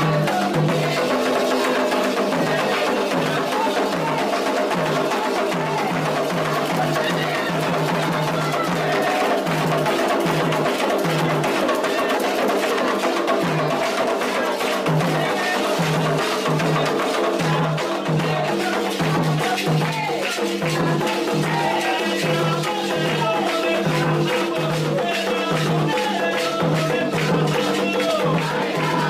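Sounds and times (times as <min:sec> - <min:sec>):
hand drums beating: 0:00.0 - 0:29.0
sharp wood-block strikes: 0:00.0 - 0:29.0.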